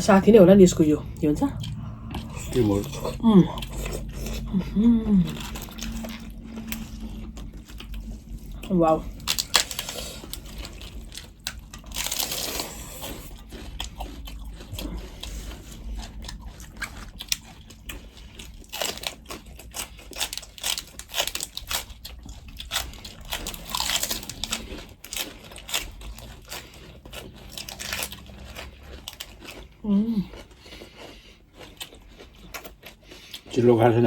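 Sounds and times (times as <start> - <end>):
person chewing crunchy food: 0.0 - 34.0.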